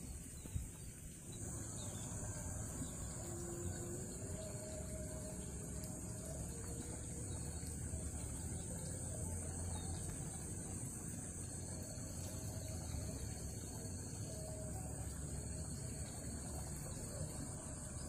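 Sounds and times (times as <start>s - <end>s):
high-pitched insect drone: 1.4s - 18.0s.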